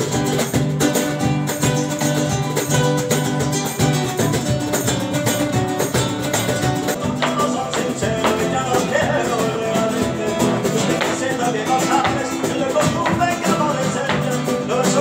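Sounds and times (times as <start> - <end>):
strummed guitar music with beat: 0.0 - 15.0.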